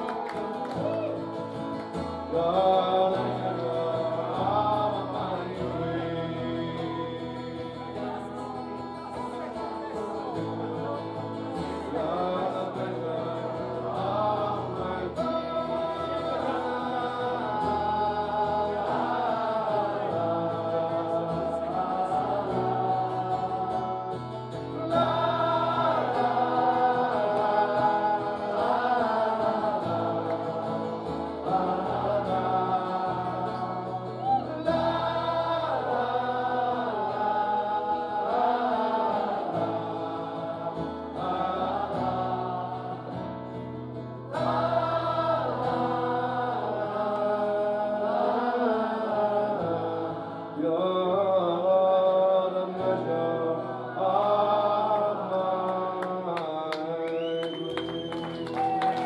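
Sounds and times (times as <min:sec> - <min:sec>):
strummed acoustic guitar: 0:00.0 - 0:58.6
crowd singing along: 0:00.0 - 0:59.0.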